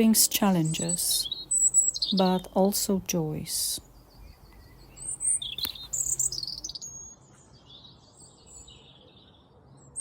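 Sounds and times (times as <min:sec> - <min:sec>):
small birds chirping and twittering: 0:00.0 - 0:10.0.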